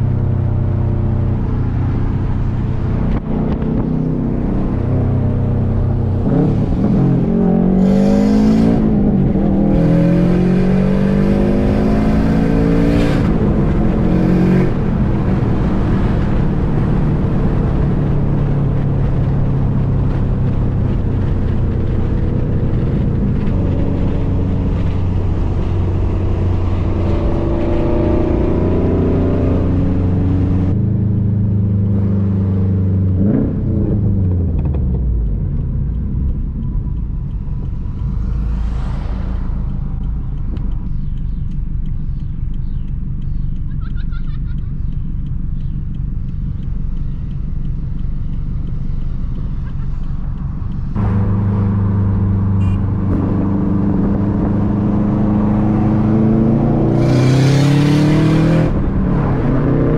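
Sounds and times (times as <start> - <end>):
turbocharged car engine revving: 0.0 - 59.9.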